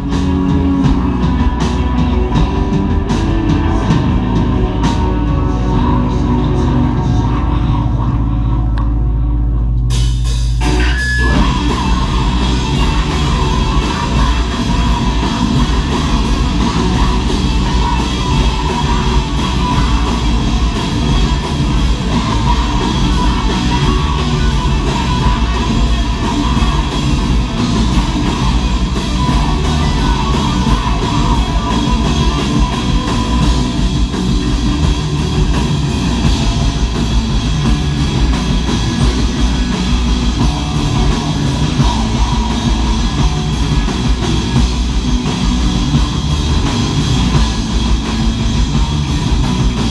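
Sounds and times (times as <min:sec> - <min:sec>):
heavy metal band playing: 0:00.0 - 0:49.9.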